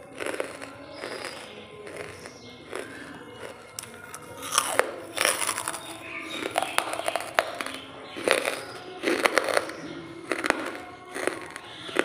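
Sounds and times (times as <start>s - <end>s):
crunchy chewing of charcoal: 0.0s - 12.0s.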